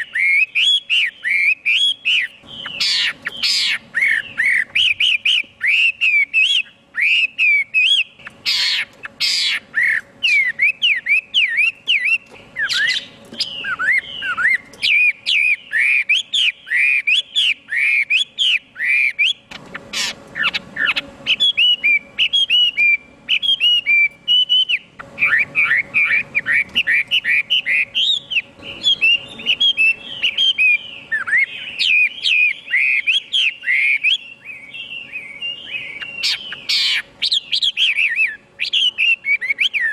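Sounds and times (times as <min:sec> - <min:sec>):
bird singing whistled notes: 0:00.0 - 0:39.9
faint steady hum: 0:00.0 - 0:39.9.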